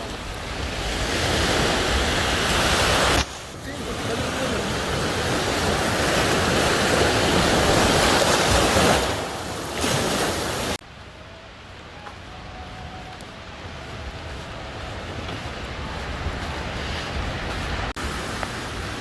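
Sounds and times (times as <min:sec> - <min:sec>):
sea waves: 0:00.0 - 0:19.0
wind buffeting the microphone: 0:00.0 - 0:19.0.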